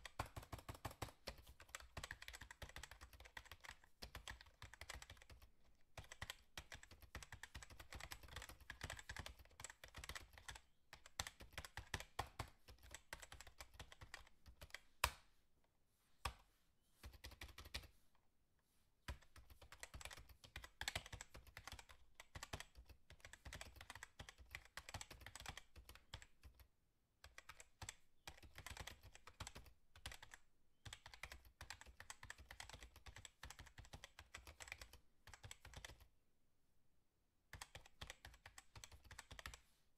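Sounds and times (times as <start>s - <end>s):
rapid small clicks and taps: 0.0s - 15.2s, 19.1s - 36.1s.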